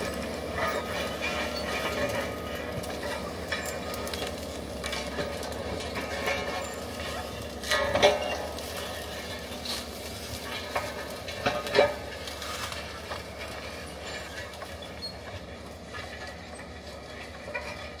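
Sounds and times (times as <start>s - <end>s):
diesel engine running: 0.0s - 18.0s
machine driving over brush: 0.0s - 18.0s.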